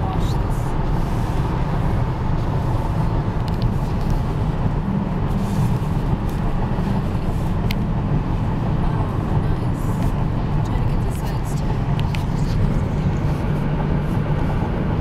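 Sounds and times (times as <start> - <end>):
car engine and tyres on snow: 0.0 - 15.0.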